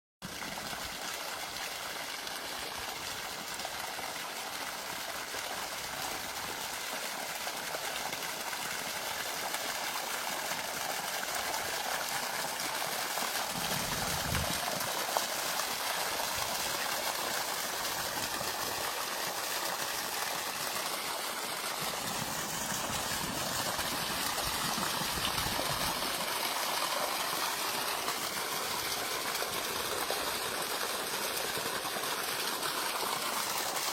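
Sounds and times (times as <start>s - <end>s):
stream water rushing: 0.2s - 33.9s.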